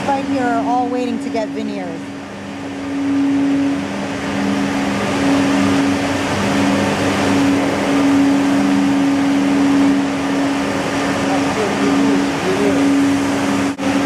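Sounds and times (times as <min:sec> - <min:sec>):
woodworking machinery whirring: 0:00.0 - 0:14.0.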